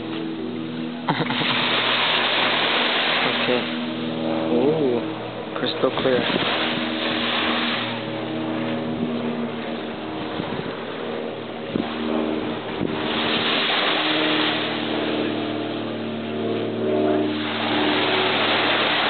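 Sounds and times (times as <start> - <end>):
engine humming: 0.0 - 19.0
steady rushing noise: 0.0 - 19.0.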